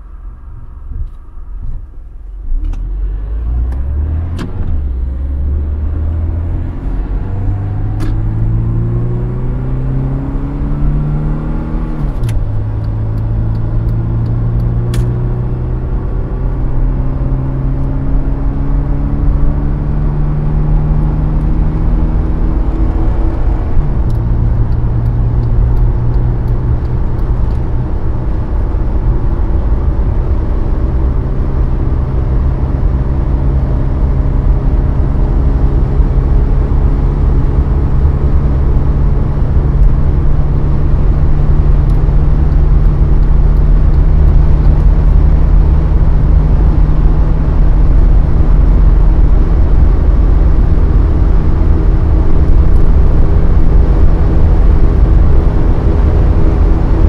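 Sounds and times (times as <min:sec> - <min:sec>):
car engine drone: 0:00.0 - 0:57.0
road and wind noise: 0:00.0 - 0:57.0.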